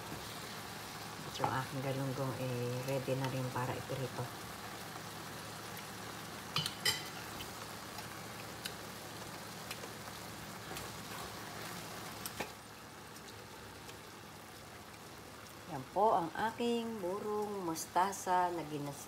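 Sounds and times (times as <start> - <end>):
frying hiss: 0.0 - 19.0.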